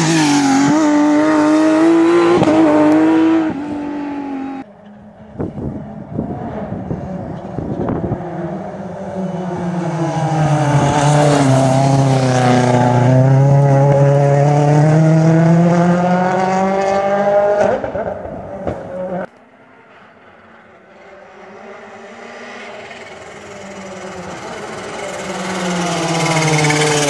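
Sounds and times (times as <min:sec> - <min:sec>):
rally car engine passing: 0:00.0 - 0:27.0.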